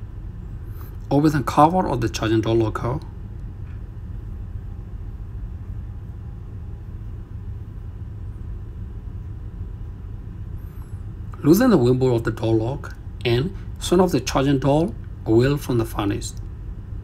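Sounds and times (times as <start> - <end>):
engine-room machinery rumble: 0.0 - 17.0.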